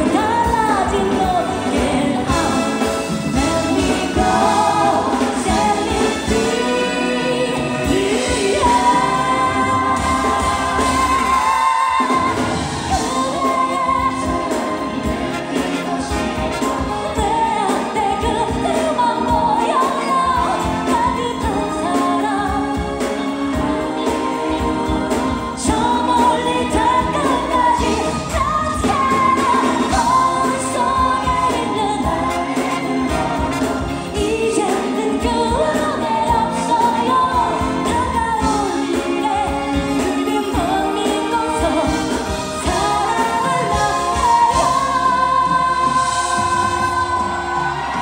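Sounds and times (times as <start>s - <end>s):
band accompaniment with steady beat: 0.0s - 48.0s
woman singing into a microphone: 0.0s - 48.0s.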